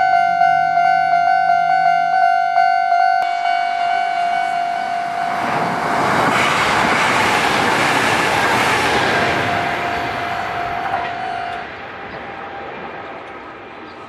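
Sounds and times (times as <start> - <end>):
crossing warning tone: 0.0 - 14.0
electric train passing: 0.0 - 14.0.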